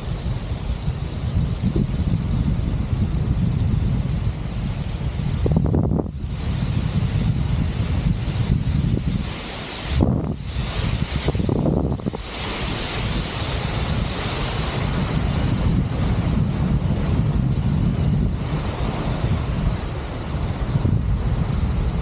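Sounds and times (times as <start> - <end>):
waterfall hiss: 0.0 - 22.0
wind noise on microphone: 0.0 - 22.0.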